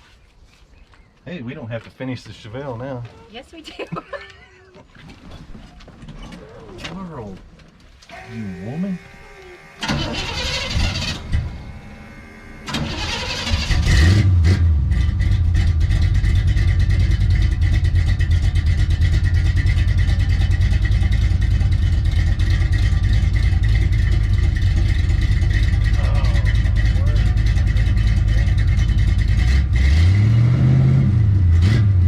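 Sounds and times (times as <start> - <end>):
truck engine cranking and running: 6.0 - 32.0.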